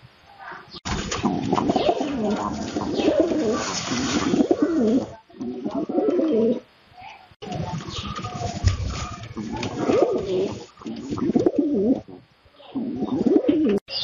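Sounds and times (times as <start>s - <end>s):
pigeons cooing: 0.9s - 6.7s, 7.4s - 14.0s.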